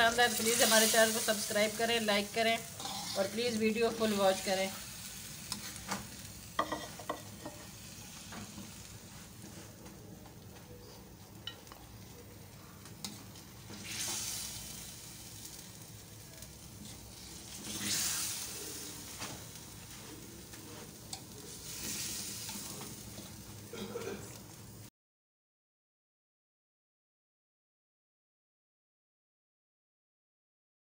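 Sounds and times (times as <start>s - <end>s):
curry sizzling in a wok: 0.0s - 24.9s.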